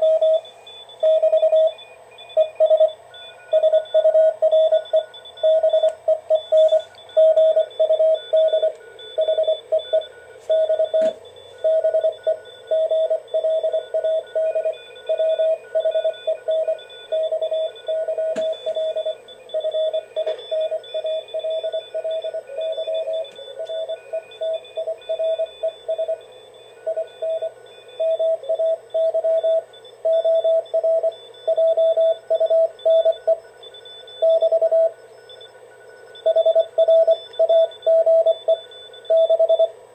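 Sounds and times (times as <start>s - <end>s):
morse code tone: 0.0s - 39.8s
faint morse signals: 0.0s - 39.9s.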